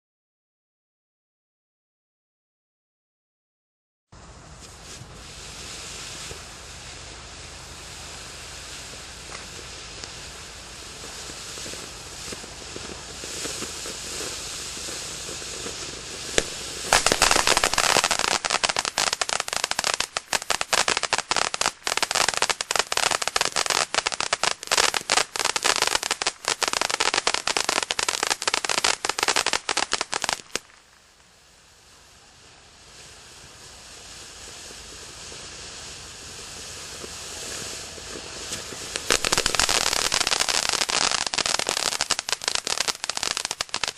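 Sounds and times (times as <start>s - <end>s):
firework crackling: 4.2s - 43.9s
firework spraying sparks hissing: 4.2s - 43.9s.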